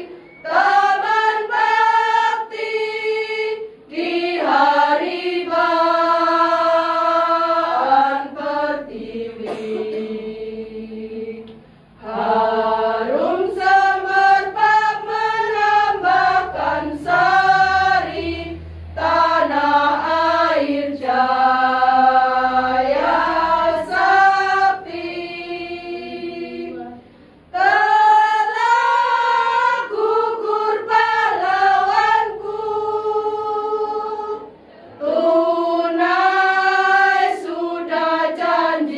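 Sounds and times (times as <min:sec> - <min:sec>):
women's choir singing: 0:00.0 - 0:38.9.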